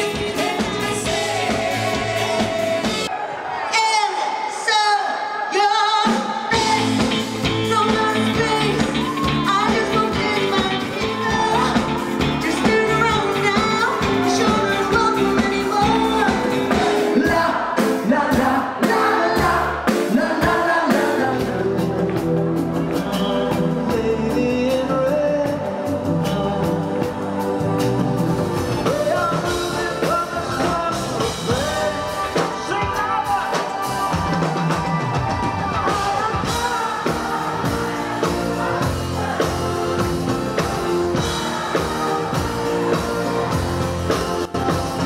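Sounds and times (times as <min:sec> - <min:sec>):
pop-rock song with singer: 0:00.0 - 0:45.0.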